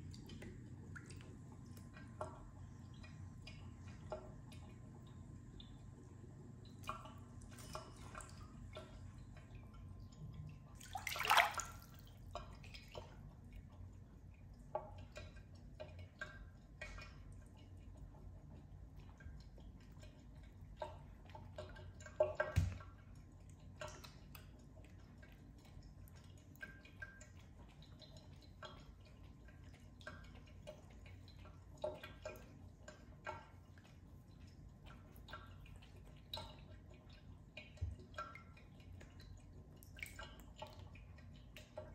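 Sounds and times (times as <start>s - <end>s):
cat lapping water: 0.0s - 41.9s
water dripping and splashing: 0.0s - 41.9s.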